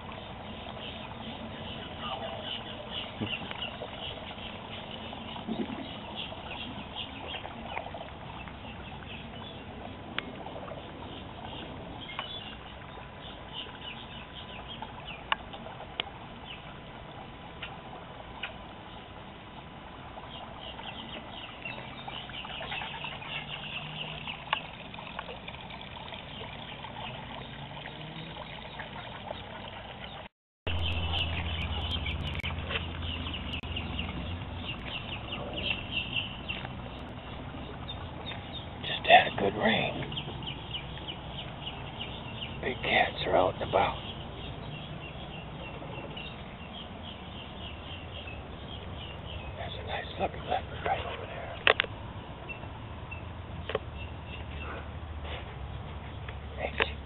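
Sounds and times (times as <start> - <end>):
low steady hum: 0.0 - 57.0
small birds chirping: 0.0 - 57.0.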